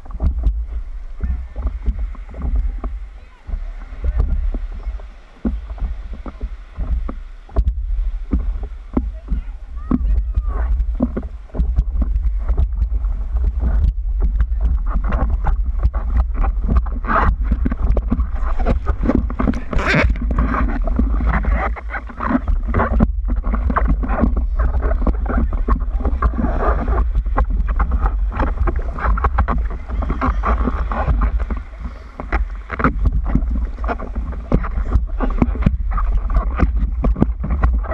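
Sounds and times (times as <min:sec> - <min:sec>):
low rumble: 0:00.0 - 0:37.9
water slapping against surfboard: 0:00.0 - 0:37.9.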